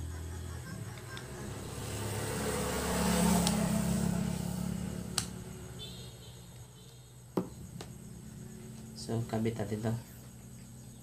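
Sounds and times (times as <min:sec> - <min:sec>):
passing vehicle hum: 0:00.0 - 0:10.8.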